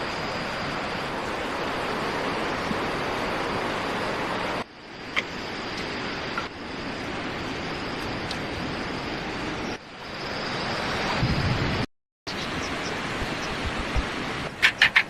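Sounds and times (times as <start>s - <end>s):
thin high hum: 0.0s - 14.6s
steady rushing noise: 0.0s - 15.0s.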